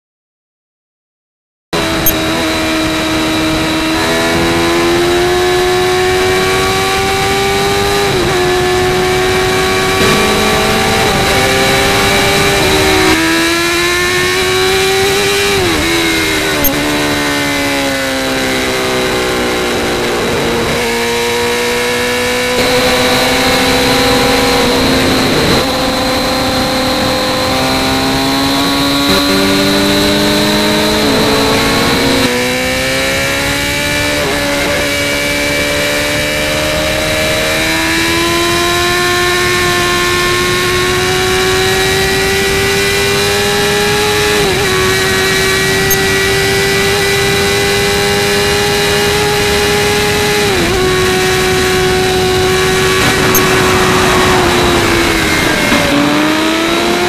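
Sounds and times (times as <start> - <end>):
motorcycle engine revving: 1.8 - 57.0.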